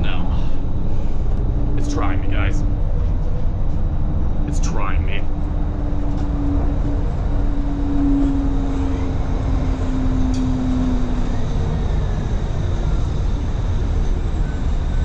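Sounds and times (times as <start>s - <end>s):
bus engine rumble: 0.0s - 15.0s
held hum: 0.0s - 15.0s.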